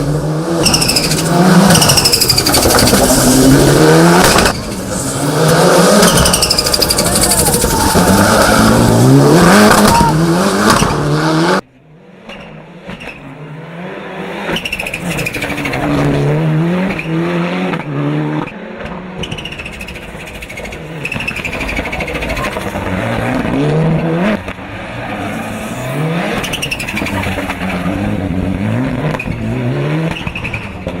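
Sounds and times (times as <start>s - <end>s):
car engine accelerating hard: 0.0s - 11.6s, 12.6s - 31.0s.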